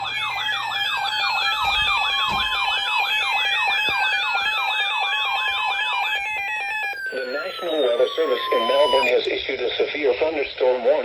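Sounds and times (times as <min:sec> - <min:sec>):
steady alert tones: 0:00.0 - 0:09.2
wavering siren sweep: 0:00.0 - 0:09.2.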